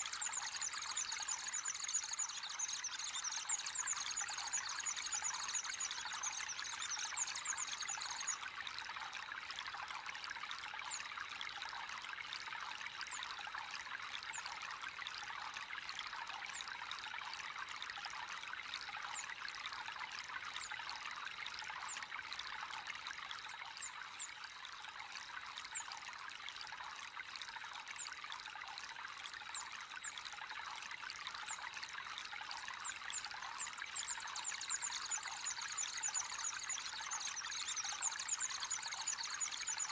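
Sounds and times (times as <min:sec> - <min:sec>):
water trickling into a pond: 0:00.0 - 0:39.9.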